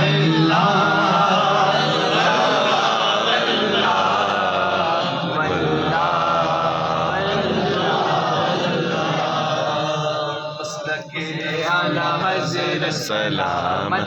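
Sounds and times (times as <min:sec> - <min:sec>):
voices chanting devotional verse: 0:00.0 - 0:14.0.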